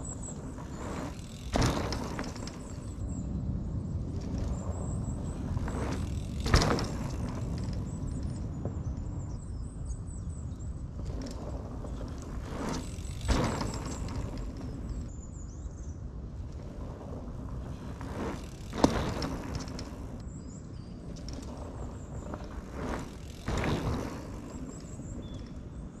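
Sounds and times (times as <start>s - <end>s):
bike tyres on dirt trail: 0.0s - 26.0s
low outdoor rumble: 0.0s - 26.0s.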